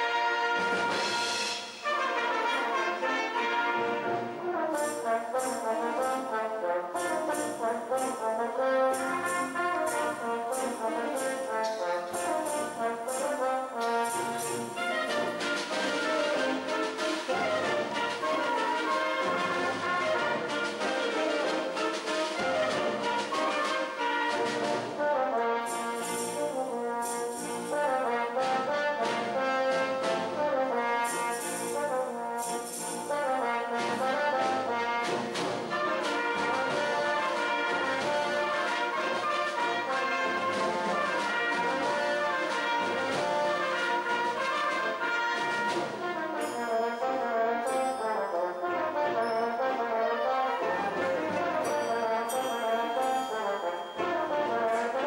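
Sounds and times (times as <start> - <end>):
french horn melody: 0.0 - 55.0
wind band accompaniment: 0.0 - 55.0.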